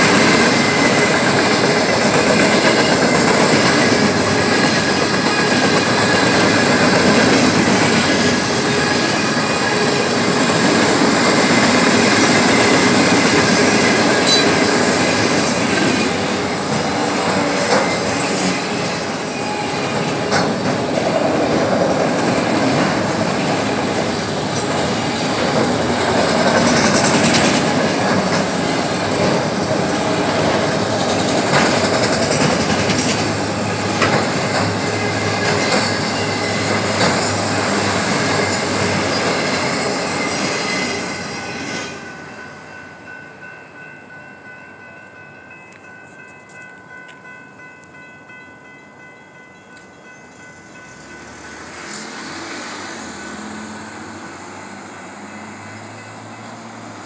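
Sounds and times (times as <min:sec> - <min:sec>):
freight train rolling over rails: 0:00.0 - 0:57.0
train cars clanking: 0:00.0 - 0:57.0.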